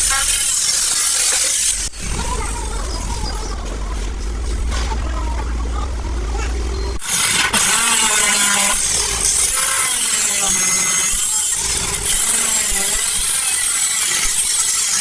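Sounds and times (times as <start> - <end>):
power tool cutting steel: 0.0 - 5.0, 6.7 - 15.0.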